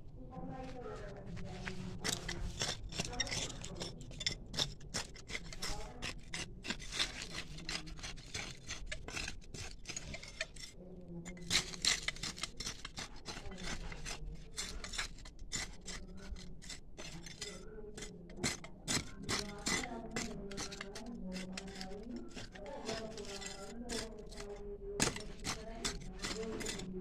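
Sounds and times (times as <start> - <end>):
rubbing against microphone: 0.5 - 27.0.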